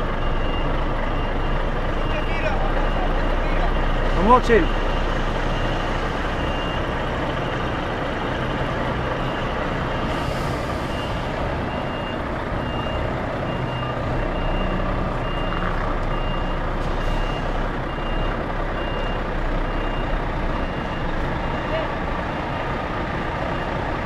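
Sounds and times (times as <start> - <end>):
diesel engine running: 0.0 - 24.0
truck reversing alarm beeping: 0.0 - 24.0.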